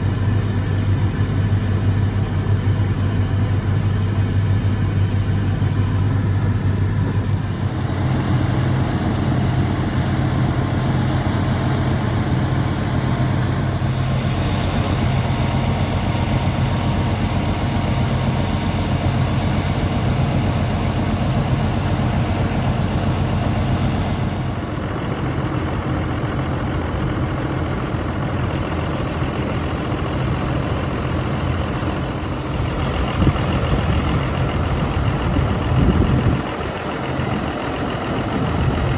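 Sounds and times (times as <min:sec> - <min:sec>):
heavy farm machinery engines: 0:00.0 - 0:38.9.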